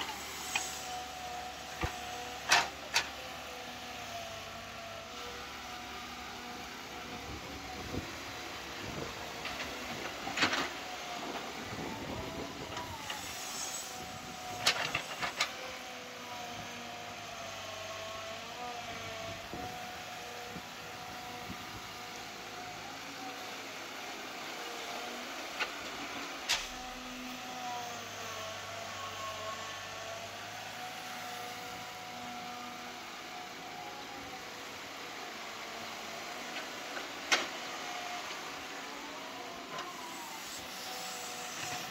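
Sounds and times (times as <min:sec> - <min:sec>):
excavator diesel engine working: 0:00.0 - 0:41.9.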